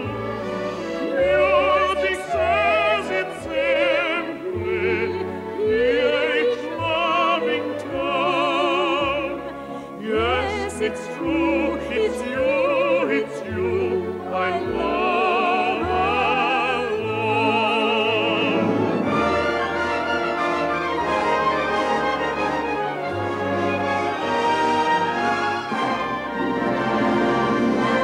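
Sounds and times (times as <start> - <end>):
operatic singing with vibrato: 0.0 - 28.0
orchestral accompaniment: 0.0 - 28.0.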